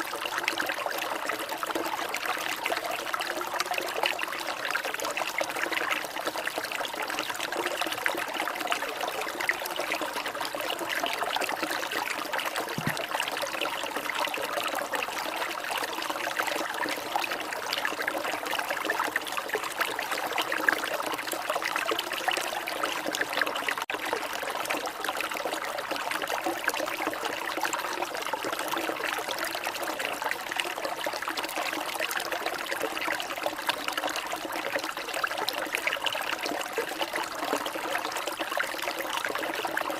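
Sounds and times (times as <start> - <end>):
water trickling: 0.2 - 39.9.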